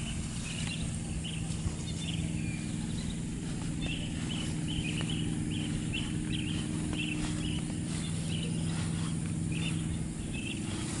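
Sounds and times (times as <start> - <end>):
small animals chirping: 0.0 - 11.0
steady low hum: 0.0 - 11.0.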